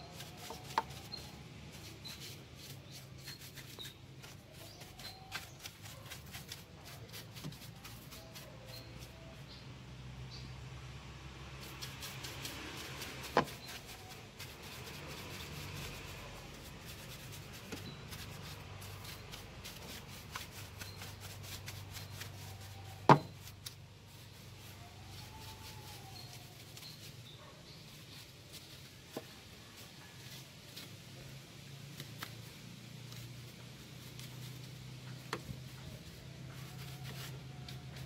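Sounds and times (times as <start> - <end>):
brush scrubbing plastic: 0.0 - 9.2, 11.5 - 38.0.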